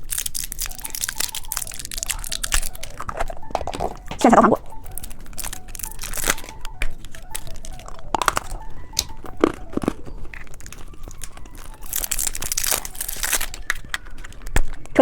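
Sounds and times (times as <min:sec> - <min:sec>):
plastic wrappers crinkling: 0:00.0 - 0:15.0.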